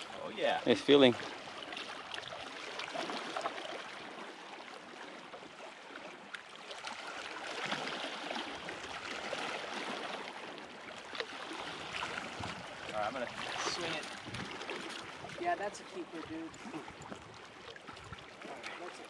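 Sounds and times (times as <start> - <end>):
water lapping against concrete: 0.0 - 19.0.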